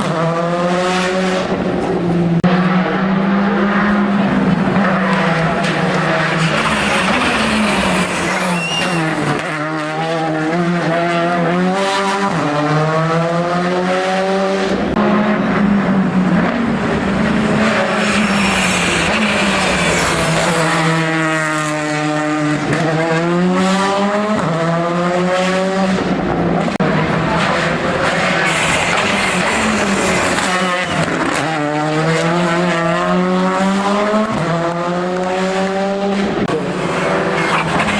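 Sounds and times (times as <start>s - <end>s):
race car engine accelerating: 0.0s - 37.9s.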